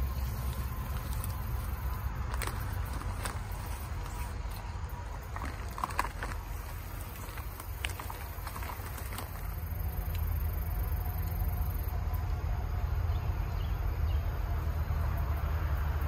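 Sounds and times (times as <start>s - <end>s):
faint insect tone: 0.0s - 16.0s.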